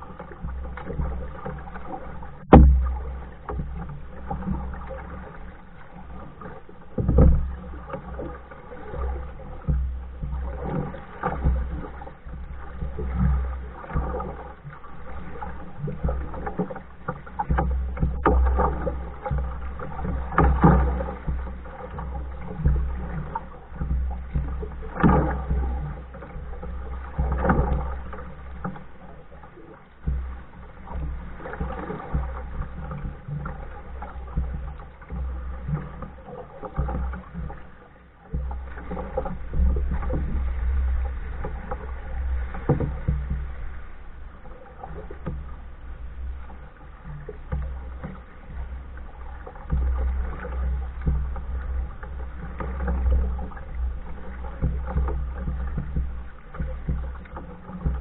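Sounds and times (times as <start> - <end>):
low steady rumble: 0.0 - 58.0
paddle strokes in water: 0.0 - 58.0.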